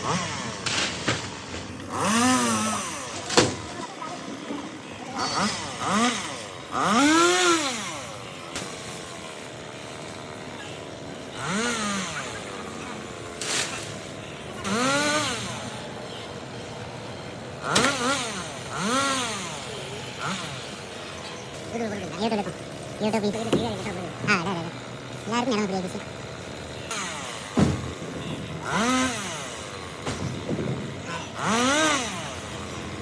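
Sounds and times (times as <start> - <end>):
chainsaw engine revving: 0.0 - 33.0.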